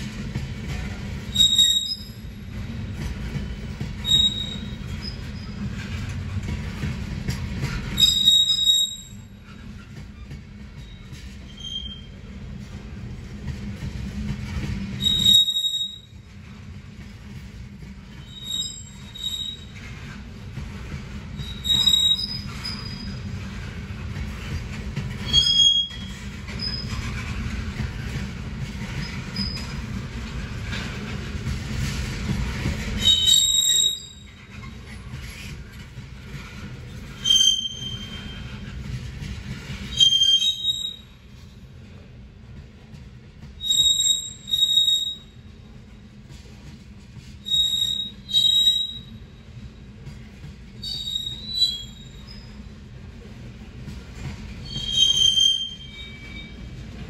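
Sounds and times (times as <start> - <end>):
train wheels squealing: 0.0 - 42.1, 42.8 - 57.0
freight train rumbling: 0.0 - 57.0.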